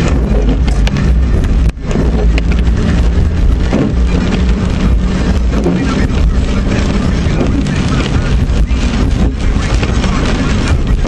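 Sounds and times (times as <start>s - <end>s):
rain pattering on car: 0.0s - 11.0s
road and engine rumble: 0.0s - 11.0s.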